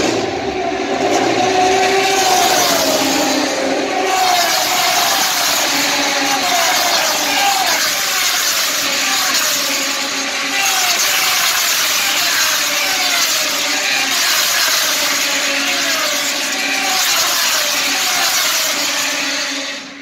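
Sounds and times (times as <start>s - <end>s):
racing motorcycles passing: 0.0s - 20.0s.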